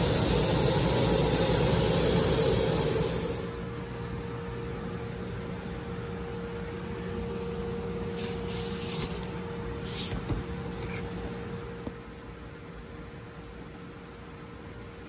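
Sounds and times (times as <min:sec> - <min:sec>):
machine hum: 0:00.0 - 0:13.3.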